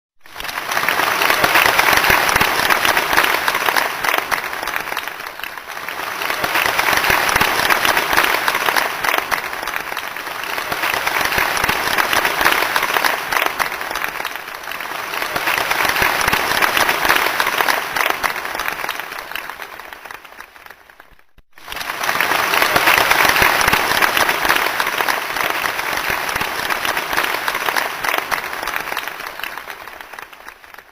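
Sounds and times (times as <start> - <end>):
audience applauding: 0.2 - 30.9.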